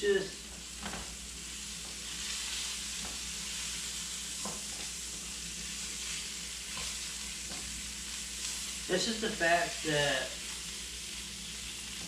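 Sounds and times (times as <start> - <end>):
sausages sizzling in a frying pan: 0.0 - 12.0.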